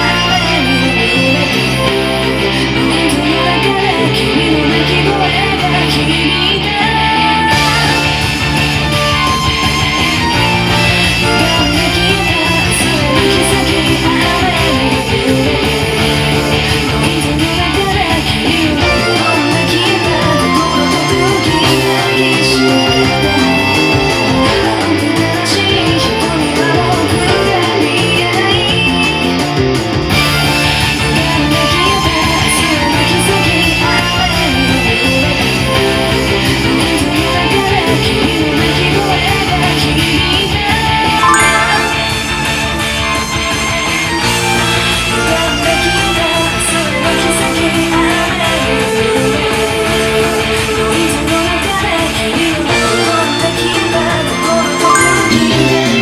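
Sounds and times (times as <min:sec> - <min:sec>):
deep bass: 0:00.0 - 0:56.0
rock music with electric guitar: 0:00.0 - 0:56.0.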